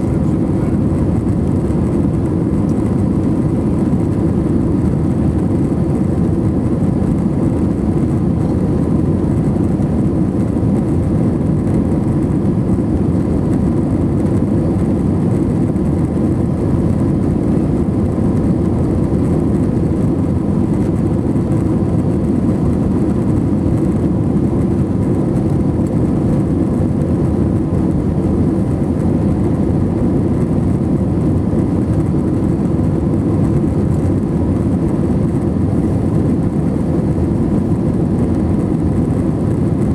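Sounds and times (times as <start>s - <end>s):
faint steady whine: 0.0s - 39.9s
jet engine rumble in cabin: 0.0s - 39.9s.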